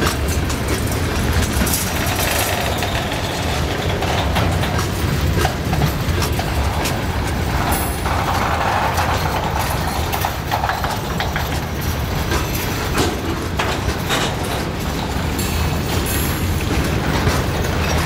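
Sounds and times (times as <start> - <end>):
freight train rumbling past: 0.0 - 18.0
wheels clacking over rail joints: 0.0 - 18.0.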